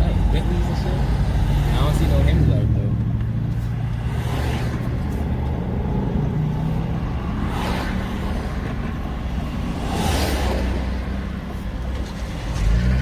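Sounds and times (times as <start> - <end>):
road noise: 0.0 - 13.0
vehicle passing: 0.0 - 13.0.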